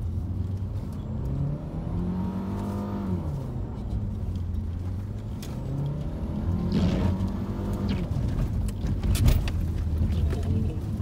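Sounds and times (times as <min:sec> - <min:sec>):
car engine revving: 0:00.1 - 0:10.5.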